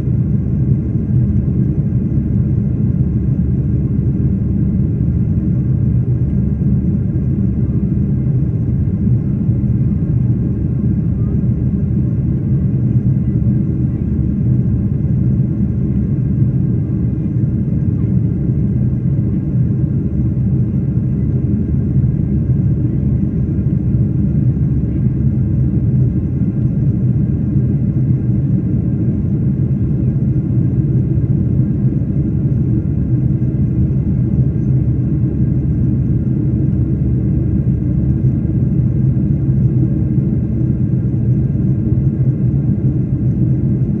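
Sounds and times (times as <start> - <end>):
airliner engine rumble in cabin: 0.0 - 44.0.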